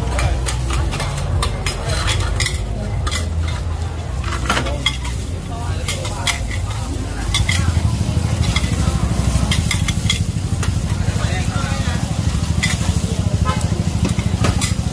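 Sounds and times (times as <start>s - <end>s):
food sizzling on griddle: 0.1s - 14.9s
metal spatula scraping griddle: 0.1s - 14.9s.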